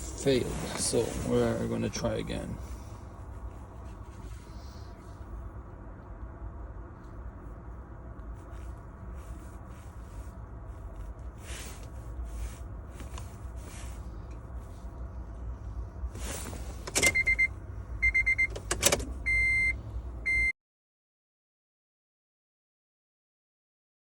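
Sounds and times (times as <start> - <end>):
steady low rumble: 0.0 - 20.4.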